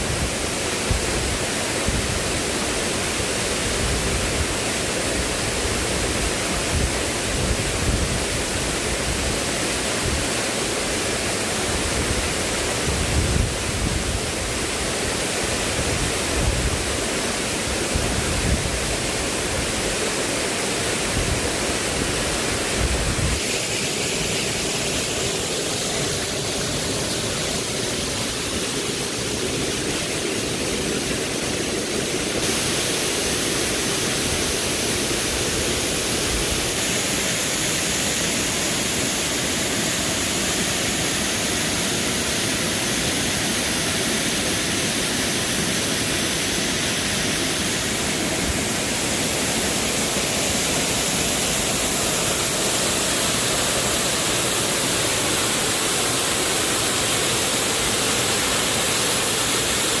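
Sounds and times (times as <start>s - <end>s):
water rushing: 0.0s - 60.0s.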